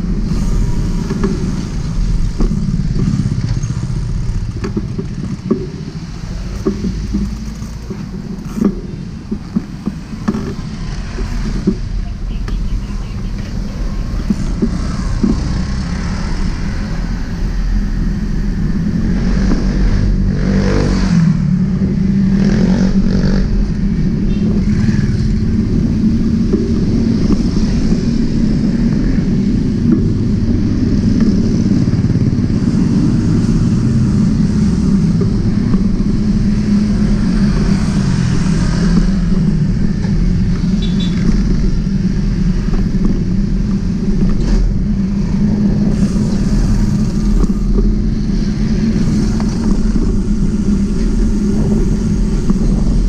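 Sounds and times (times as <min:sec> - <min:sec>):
bicycle tyres rumbling: 0:00.0 - 0:53.0
motorcycle engines passing: 0:00.0 - 0:53.0
wind on microphone: 0:00.0 - 0:53.0.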